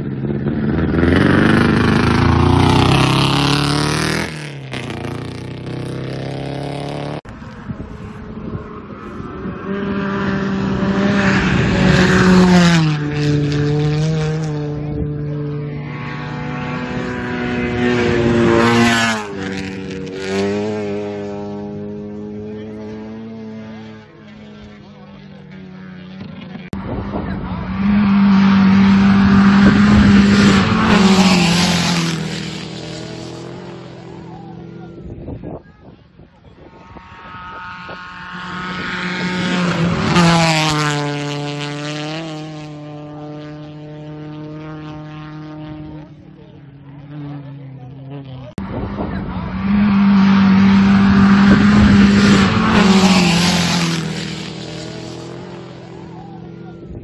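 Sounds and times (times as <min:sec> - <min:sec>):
rally car engines passing: 0:00.0 - 0:57.0.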